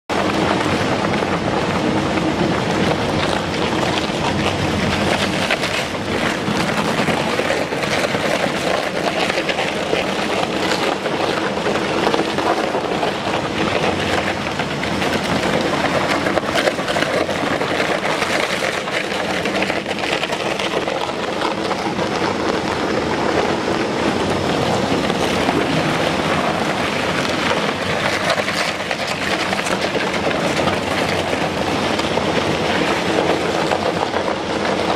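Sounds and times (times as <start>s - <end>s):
shredder machine hum: 0.1s - 34.9s.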